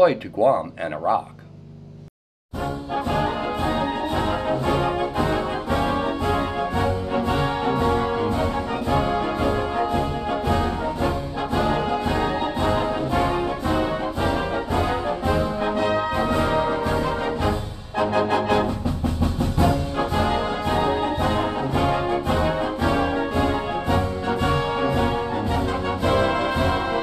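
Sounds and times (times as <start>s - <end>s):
brass-led orchestral music: 2.5s - 27.0s.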